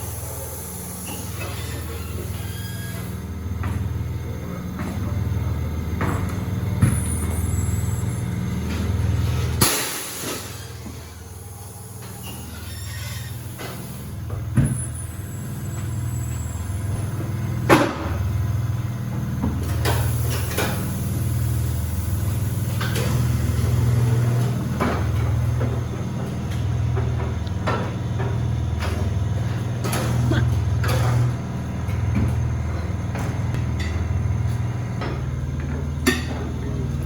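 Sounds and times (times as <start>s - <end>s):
machinery humming: 0.0s - 37.0s.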